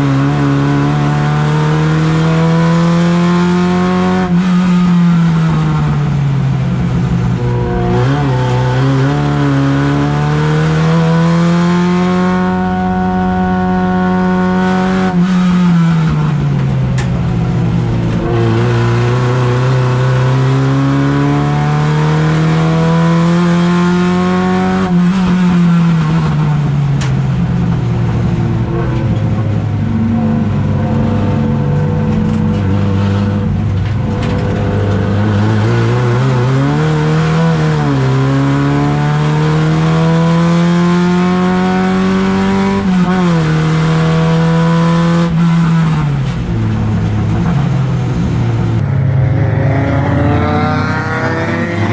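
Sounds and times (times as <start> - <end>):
race car engine accelerating: 0.0 - 51.9.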